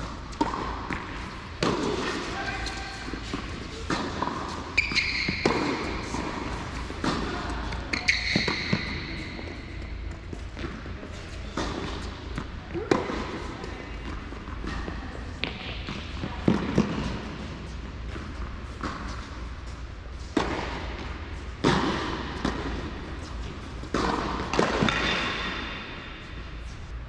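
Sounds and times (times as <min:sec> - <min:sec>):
tennis ball bouncing on hard court: 0:00.0 - 0:26.5
tennis ball hit by rackets: 0:00.1 - 0:02.3, 0:03.0 - 0:10.9, 0:11.5 - 0:17.5, 0:20.3 - 0:26.4.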